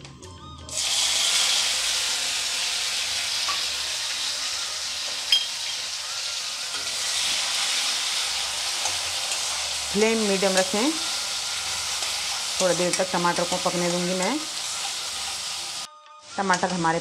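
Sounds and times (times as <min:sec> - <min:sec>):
oil sizzling: 0:00.7 - 0:15.9.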